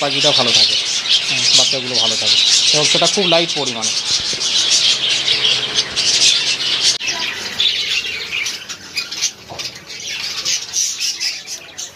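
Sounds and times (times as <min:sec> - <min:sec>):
budgerigars chattering and squawking: 0:00.0 - 0:11.9.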